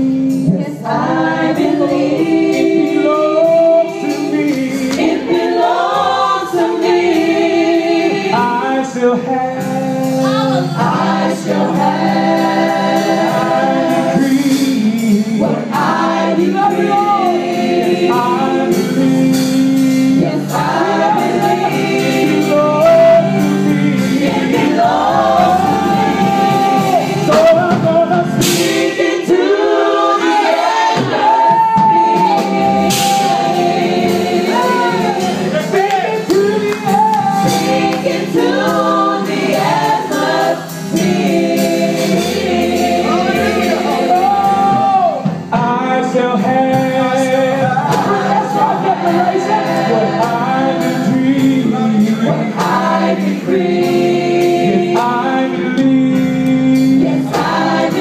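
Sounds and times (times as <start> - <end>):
group singing worship song: 0.0 - 58.0.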